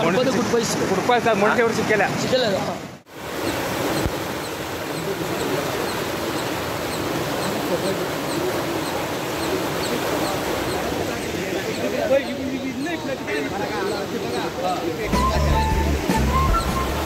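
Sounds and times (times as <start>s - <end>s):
floodwater rushing and churning: 0.0s - 17.0s.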